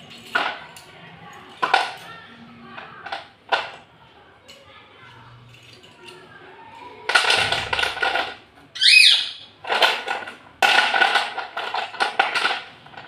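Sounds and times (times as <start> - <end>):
slate pencils clattering: 0.0 - 13.0.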